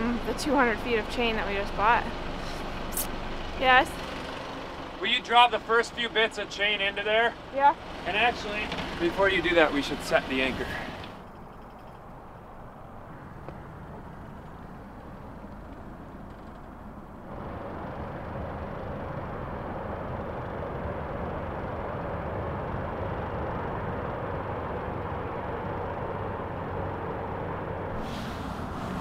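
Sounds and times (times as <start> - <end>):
diesel boat engine running: 0.0 - 29.0.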